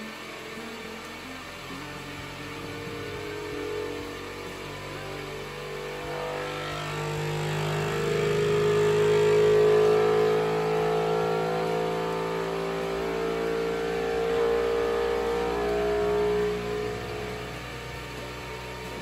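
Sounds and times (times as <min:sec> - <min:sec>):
printer motors humming and buzzing: 0:00.0 - 0:19.0.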